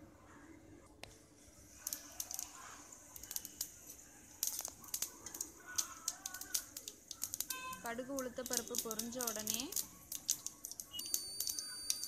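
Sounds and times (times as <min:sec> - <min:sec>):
seeds popping in hot oil: 0:01.7 - 0:12.0.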